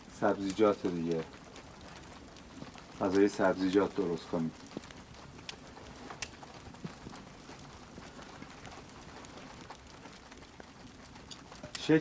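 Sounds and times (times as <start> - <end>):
faint clicks and ticks: 0.0 - 12.0
low background hiss: 0.0 - 12.0.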